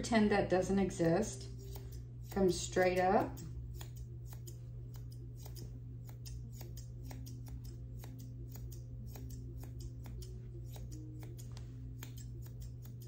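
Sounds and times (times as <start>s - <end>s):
low hum: 0.0s - 13.0s
grooming shears snipping: 1.0s - 13.0s.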